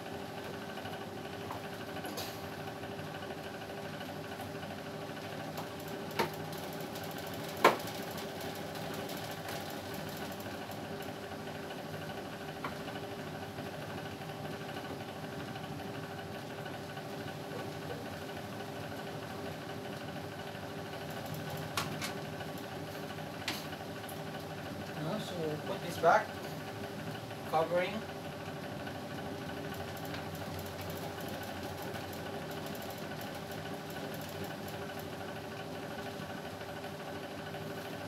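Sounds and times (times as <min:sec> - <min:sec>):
steady mechanical hum: 0:00.0 - 0:38.0.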